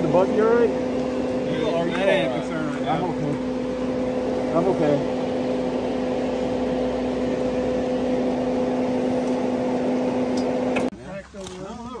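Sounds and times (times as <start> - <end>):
engine humming: 0.0 - 11.1
rough noisy background: 0.0 - 12.0.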